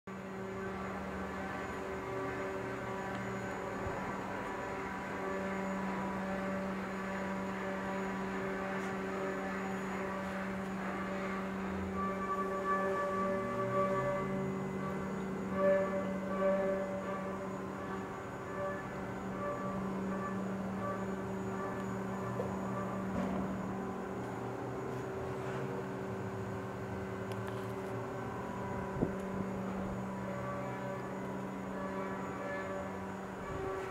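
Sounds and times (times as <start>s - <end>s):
low mains hum: 0.1s - 33.9s.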